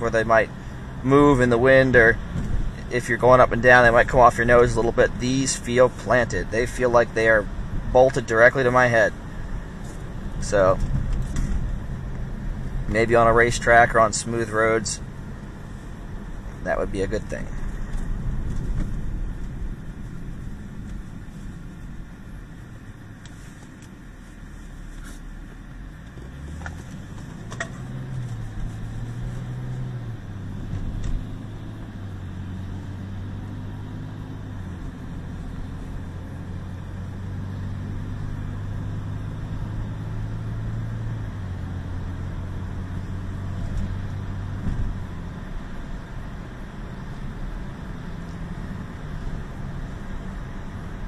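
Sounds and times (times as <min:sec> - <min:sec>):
car engine: 0:00.0 - 0:51.0.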